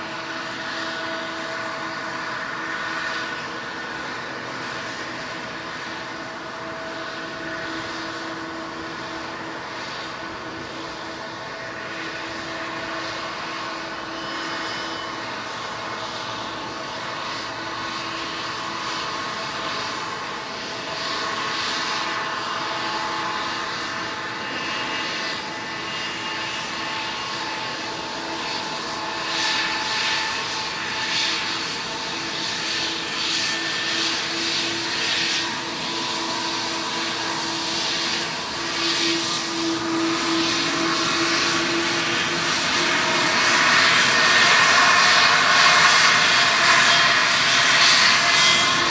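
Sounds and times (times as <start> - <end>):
jet engine rushing noise: 0.0 - 48.9
jet engine whine: 0.0 - 48.9.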